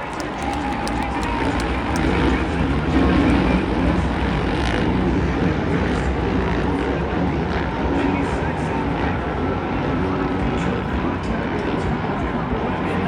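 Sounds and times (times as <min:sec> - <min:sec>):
dirt bike engines racing: 0:00.0 - 0:13.0.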